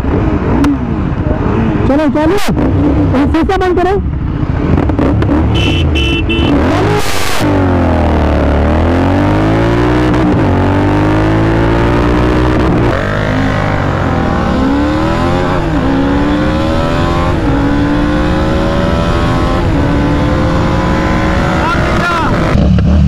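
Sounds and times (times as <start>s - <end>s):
motorcycle engines accelerating: 0.0s - 23.0s.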